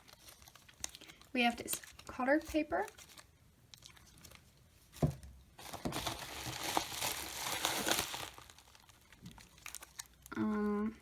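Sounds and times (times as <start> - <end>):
packaging crinkling and rustling: 0.0 - 10.4.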